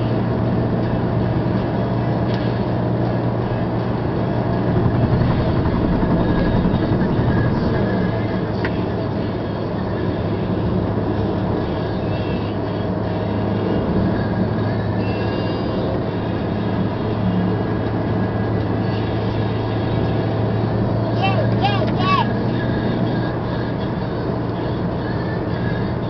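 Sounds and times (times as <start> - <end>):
car engine drone: 0.0 - 26.0
road noise rushing: 0.0 - 26.0.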